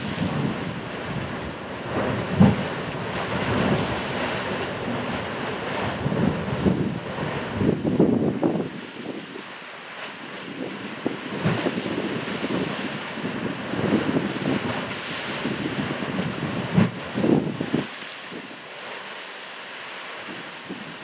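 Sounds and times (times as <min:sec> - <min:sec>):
wind rumbling on microphone: 0:00.0 - 0:09.6, 0:10.2 - 0:18.6, 0:20.2 - 0:21.0
ocean surf surging between rocks: 0:00.0 - 0:21.0.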